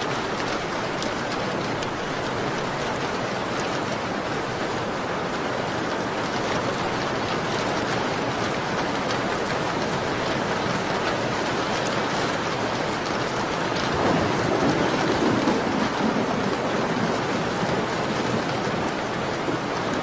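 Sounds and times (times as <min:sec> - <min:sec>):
rain pattering on a window: 0:00.0 - 0:20.0.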